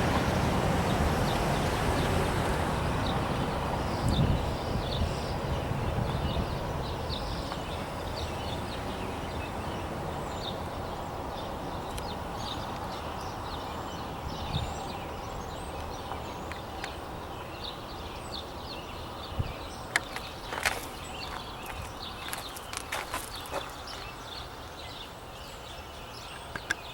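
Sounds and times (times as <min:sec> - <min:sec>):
low rumble of passing train: 0:00.0 - 0:25.3
small birds chirping: 0:00.0 - 0:26.9.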